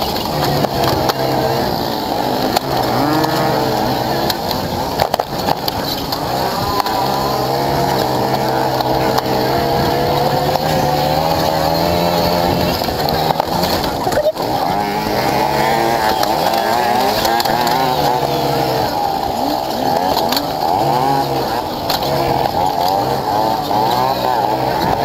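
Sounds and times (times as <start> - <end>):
motorcycle engine revving: 0.0 - 25.0
wind and rolling noise: 0.0 - 25.0.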